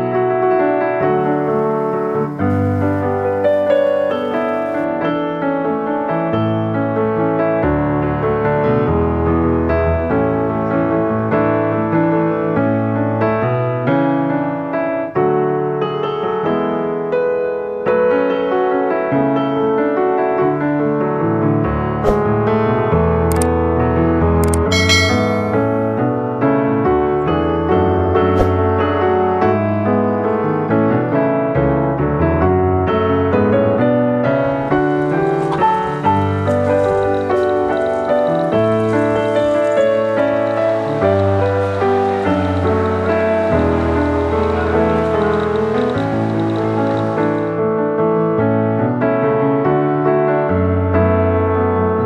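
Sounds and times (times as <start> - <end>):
piano music: 0.0 - 18.6, 19.2 - 52.0.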